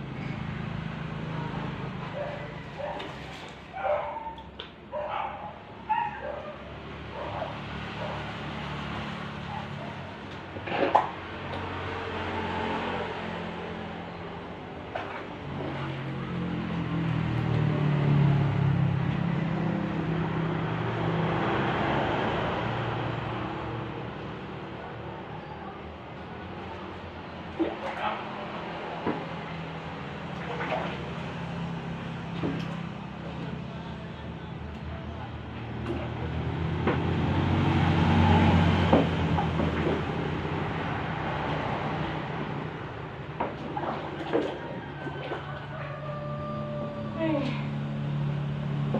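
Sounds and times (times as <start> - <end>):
vehicle engine passing by: 0.0 - 4.0, 5.1 - 48.9.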